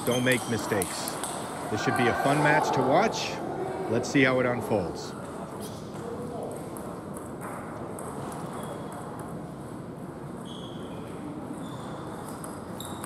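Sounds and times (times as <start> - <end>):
large hall noise: 0.0 - 13.0.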